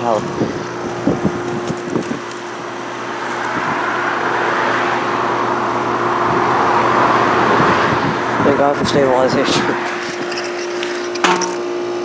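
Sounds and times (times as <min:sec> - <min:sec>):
heat pump compressor and fan hum: 0:00.0 - 0:12.0.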